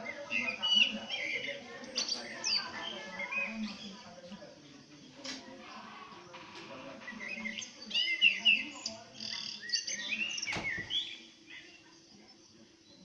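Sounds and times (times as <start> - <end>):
birds chirping through phone speaker: 0.0 - 13.0.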